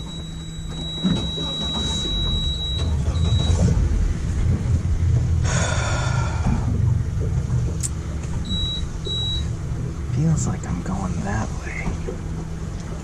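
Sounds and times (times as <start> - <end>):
outboard boat engine rumble: 0.0 - 13.0.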